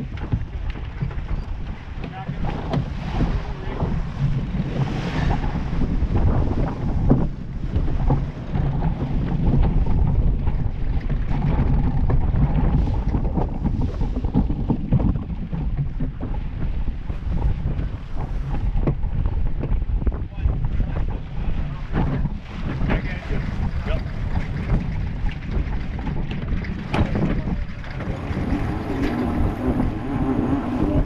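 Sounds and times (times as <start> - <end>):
water rushing past hull: 0.0 - 31.0
wind buffeting microphone: 0.0 - 31.0.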